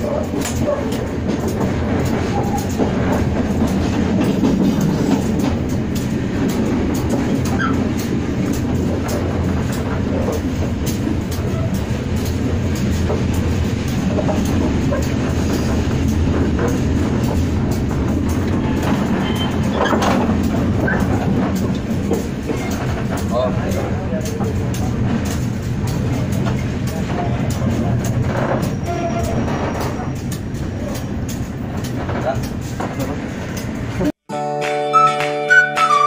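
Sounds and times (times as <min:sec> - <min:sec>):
wheels clicking over track: 0:00.0 - 0:34.0
train rumble inside carriage: 0:00.0 - 0:34.2.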